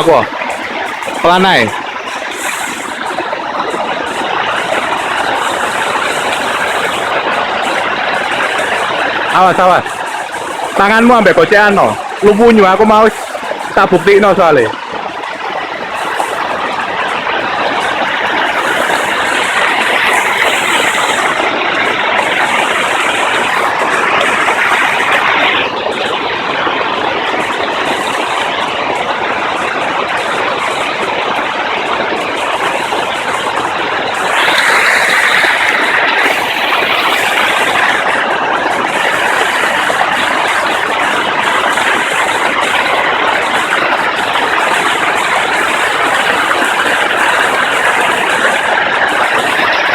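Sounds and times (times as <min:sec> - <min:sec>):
roar of rushing water: 0:00.0 - 0:49.9.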